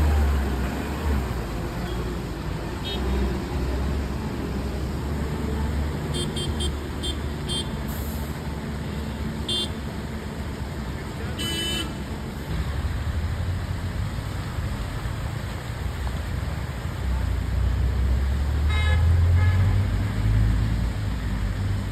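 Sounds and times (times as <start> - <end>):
traffic on a wet road: 0.0 - 21.9.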